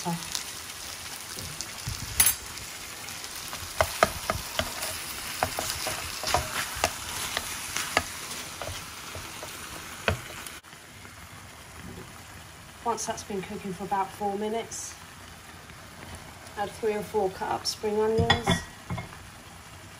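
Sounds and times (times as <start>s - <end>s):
chicken sizzling in oil: 0.0s - 19.9s.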